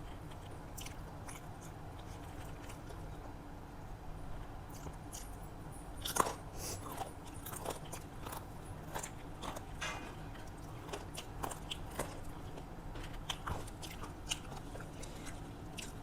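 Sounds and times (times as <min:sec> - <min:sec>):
chewing crunchy food: 0:00.0 - 0:16.0.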